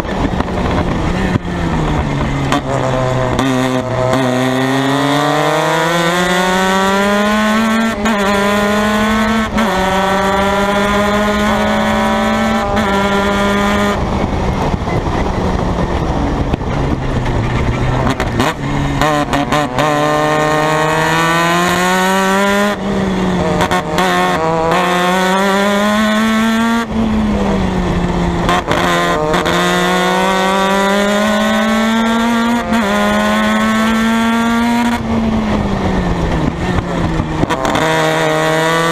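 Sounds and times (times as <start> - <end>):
race car engine revving and shifting: 0.0 - 38.9.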